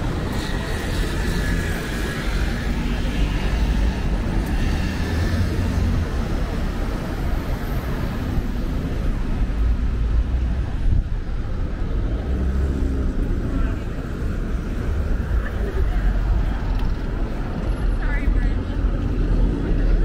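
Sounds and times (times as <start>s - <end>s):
passing traffic rumble: 0.0s - 20.0s.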